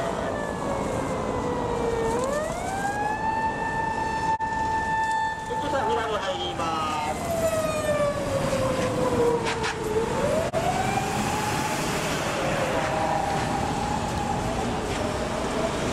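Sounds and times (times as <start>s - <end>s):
busy road traffic: 0.0s - 15.9s.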